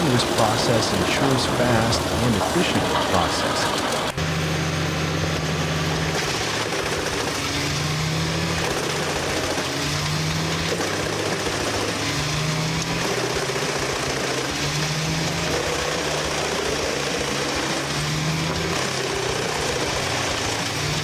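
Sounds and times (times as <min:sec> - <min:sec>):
wood chipper engine hum: 0:00.0 - 0:21.0.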